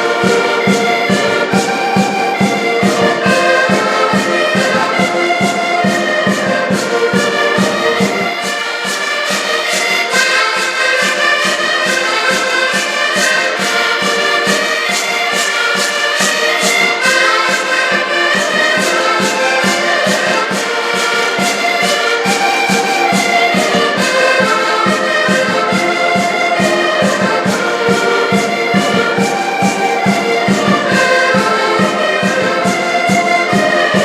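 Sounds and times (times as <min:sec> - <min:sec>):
live band music: 0:00.0 - 0:34.0.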